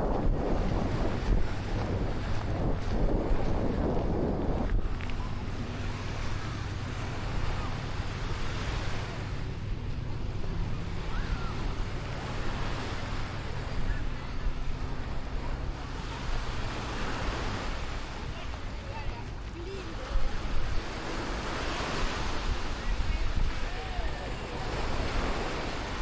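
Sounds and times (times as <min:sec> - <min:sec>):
faint voices of people: 0:00.0 - 0:26.0
waves washing on the shore: 0:00.0 - 0:26.0
wind buffeting the microphone: 0:00.0 - 0:26.0.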